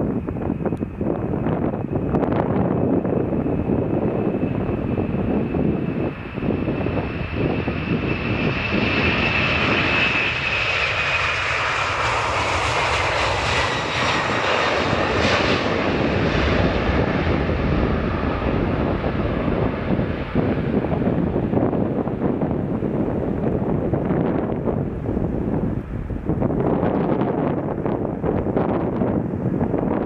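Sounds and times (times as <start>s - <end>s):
jet airliner passing: 0.0s - 30.0s
wind buffeting microphone: 0.0s - 30.0s.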